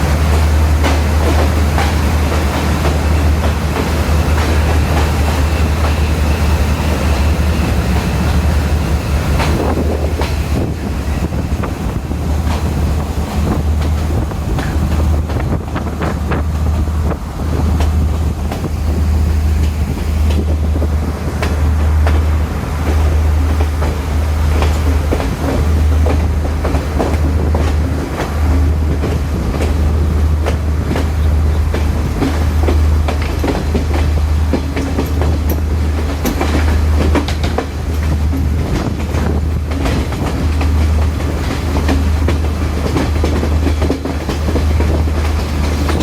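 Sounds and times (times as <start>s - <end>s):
diesel train engine drone: 0.0s - 46.0s
train rushing noise: 0.0s - 46.0s
train wheels clicking over rail joints: 0.0s - 46.0s.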